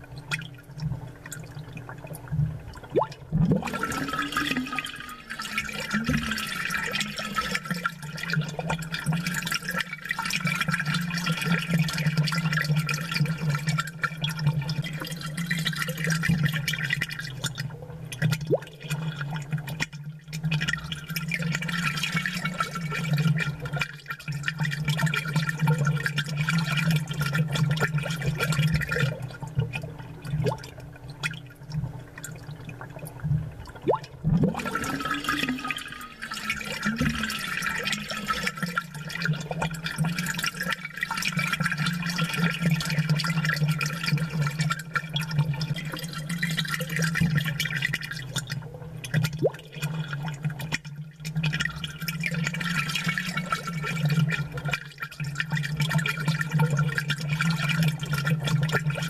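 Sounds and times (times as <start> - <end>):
aquarium water bubbling: 0.0 - 59.0.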